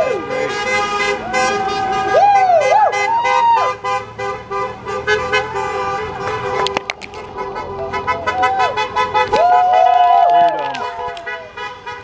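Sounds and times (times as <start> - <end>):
vehicle horns honking: 0.0 - 10.0, 10.6 - 12.0.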